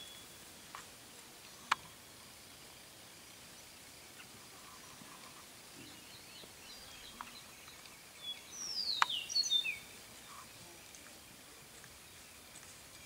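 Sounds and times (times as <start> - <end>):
low outdoor hiss: 0.0 - 13.0
birds twittering: 1.4 - 13.0.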